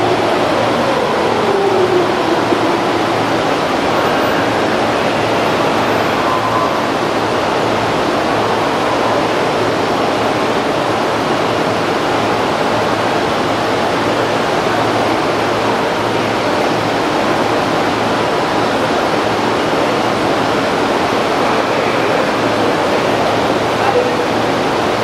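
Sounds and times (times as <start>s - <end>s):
station rushing ambience: 0.0s - 25.0s.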